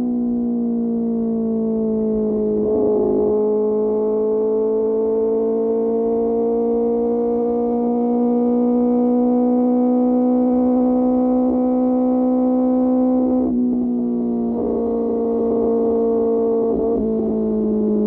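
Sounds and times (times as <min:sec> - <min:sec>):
motorcycle engine at high revs: 0:00.9 - 0:18.0.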